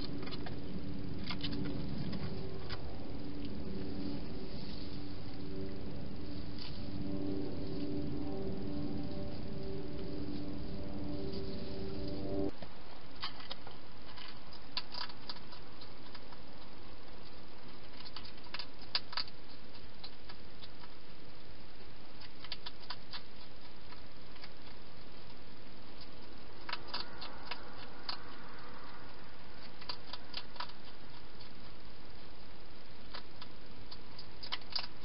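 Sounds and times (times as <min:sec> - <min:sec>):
hedgehog chewing: 0:00.0 - 0:11.6, 0:12.9 - 0:35.0
steady hiss: 0:00.0 - 0:35.0.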